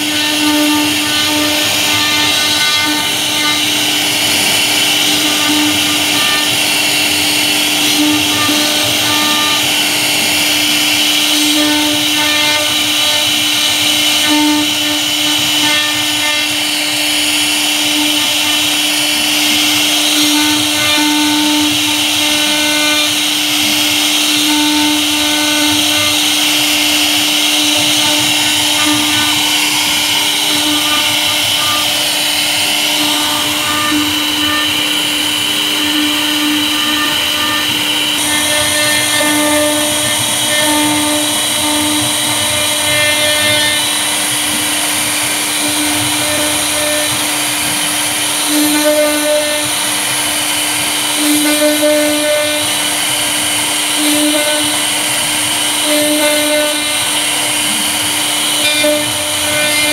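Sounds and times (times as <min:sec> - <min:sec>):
bit cutting into wood: 0:00.0 - 0:53.1, 0:53.8 - 0:59.9
router spindle whirring: 0:00.0 - 0:59.9.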